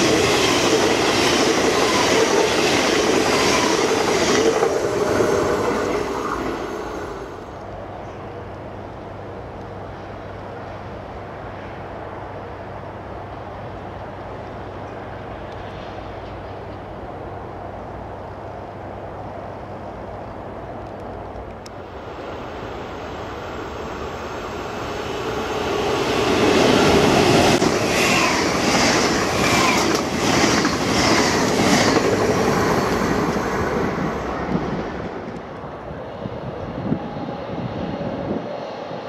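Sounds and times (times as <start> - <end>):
train rumble: 0.0 - 39.0.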